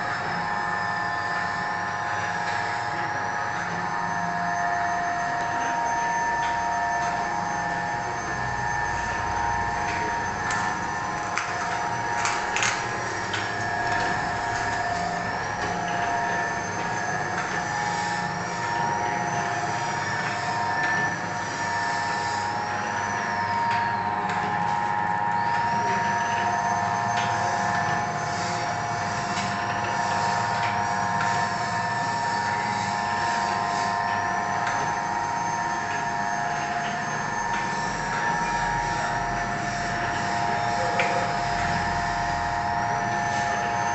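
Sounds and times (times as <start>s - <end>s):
high whine drifting in pitch: 0.0s - 43.9s
packing machine humming: 0.0s - 43.9s.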